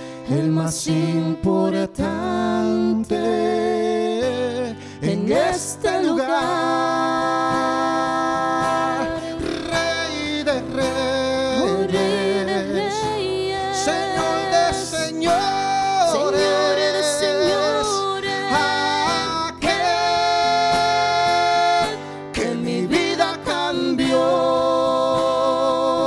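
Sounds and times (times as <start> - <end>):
man and woman singing: 0.0 - 26.0
strummed acoustic guitar: 0.0 - 26.0.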